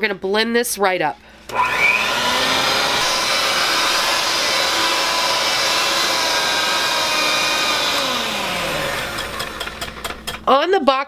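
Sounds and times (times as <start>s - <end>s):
electric hand mixer running: 1.4s - 10.4s.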